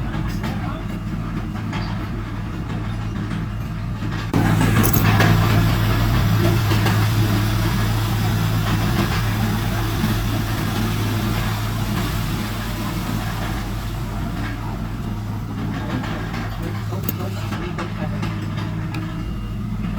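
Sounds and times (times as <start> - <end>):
heavy diesel engine running: 0.0 - 19.9.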